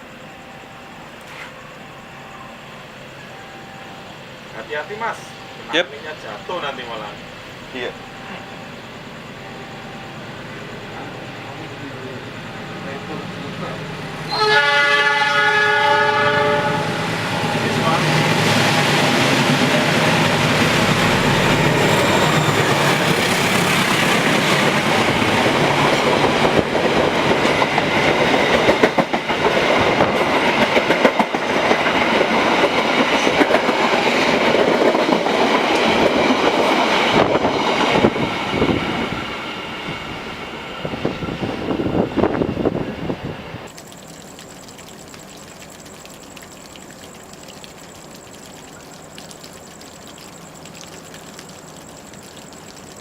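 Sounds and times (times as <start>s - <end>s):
train passing at speed: 0.0s - 43.7s.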